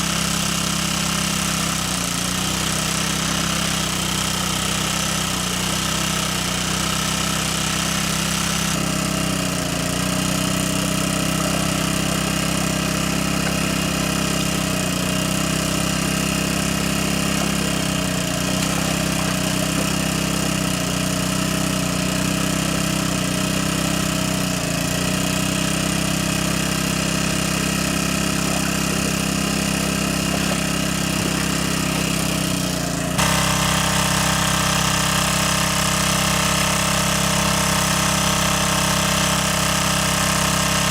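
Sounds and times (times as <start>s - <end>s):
motor running: 0.0s - 40.9s.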